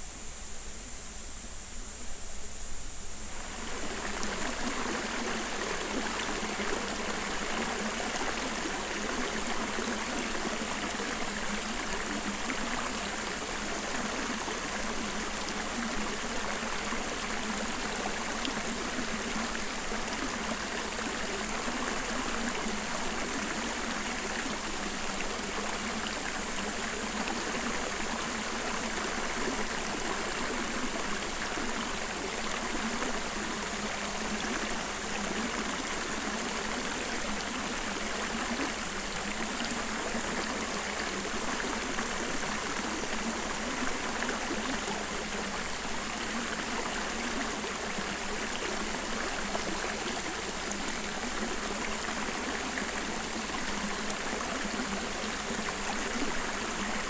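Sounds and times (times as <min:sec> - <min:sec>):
stream running water: 0:03.2 - 0:57.0.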